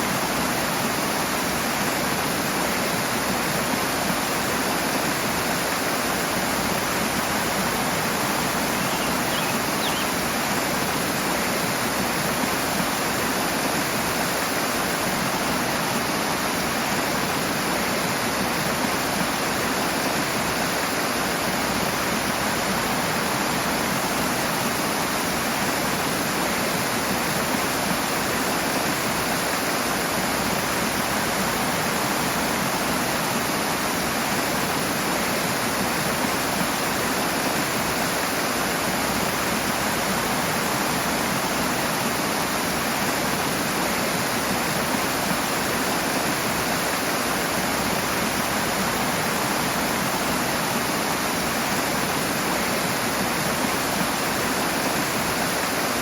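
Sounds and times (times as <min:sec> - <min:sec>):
rushing stream water: 0:00.0 - 0:56.0.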